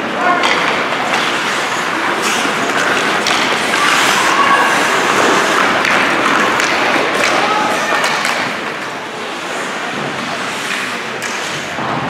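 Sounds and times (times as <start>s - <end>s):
crowd of voices: 0.0s - 12.0s.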